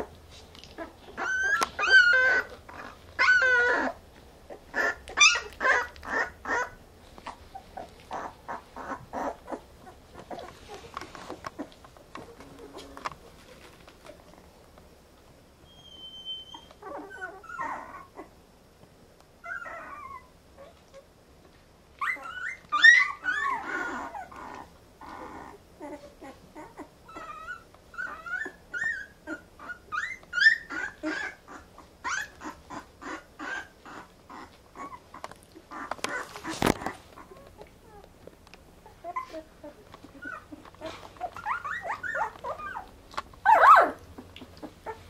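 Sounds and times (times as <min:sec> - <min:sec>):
puppies whimpering and squeaking: 0:00.0 - 0:14.3, 0:15.6 - 0:18.4, 0:19.4 - 0:21.1, 0:21.9 - 0:38.1, 0:38.8 - 0:45.0.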